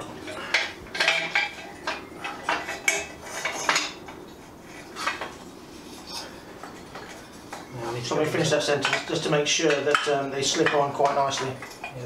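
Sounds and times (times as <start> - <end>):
metal pipes clinking: 0.0 - 4.2, 6.1 - 12.0.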